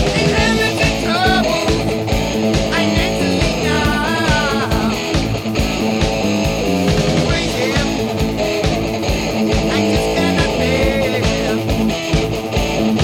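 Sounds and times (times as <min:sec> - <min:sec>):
hard rock music: 0:00.0 - 0:13.0
sliding lead guitar melody: 0:00.0 - 0:13.0.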